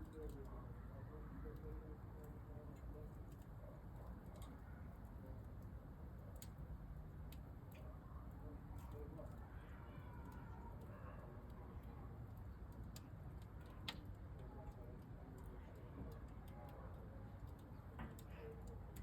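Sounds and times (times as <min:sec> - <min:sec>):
fire crackling and popping: 0:01.8 - 0:19.0.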